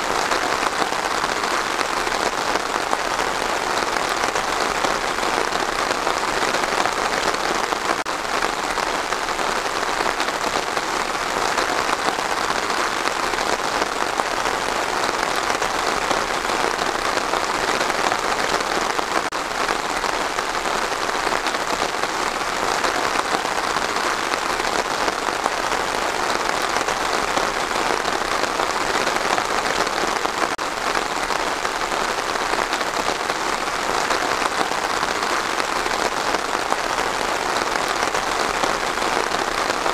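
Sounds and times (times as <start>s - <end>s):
rain falling on trees: 0.0s - 39.9s.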